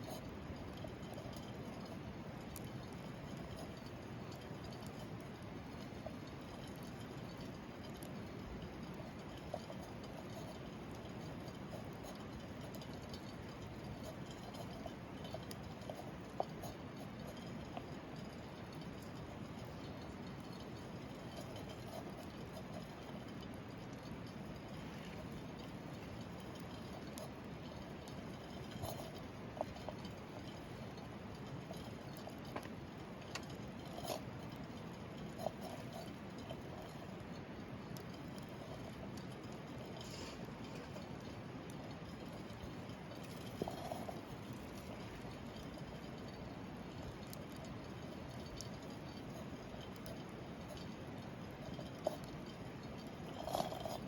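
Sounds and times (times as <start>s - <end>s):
campfire hissing and crackling: 0.2s - 54.0s.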